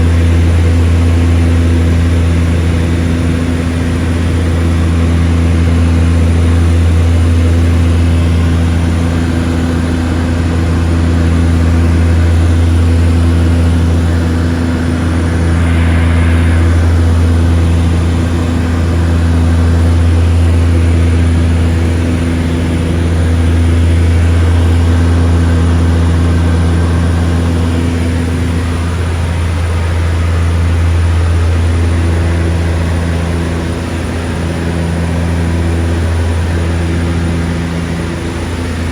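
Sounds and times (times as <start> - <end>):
propeller engines droning: 0.0 - 38.9.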